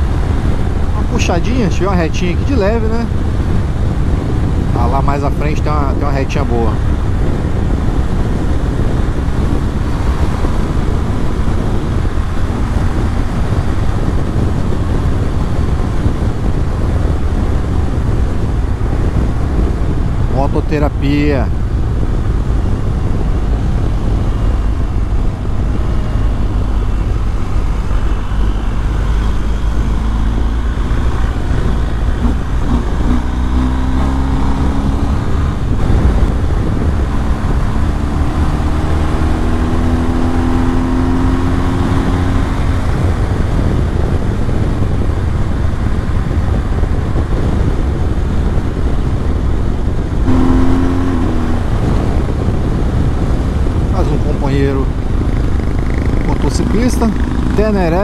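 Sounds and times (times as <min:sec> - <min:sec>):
motorcycle engine pulling hard: 0:00.0 - 0:58.0
wind rumble: 0:00.0 - 0:58.0.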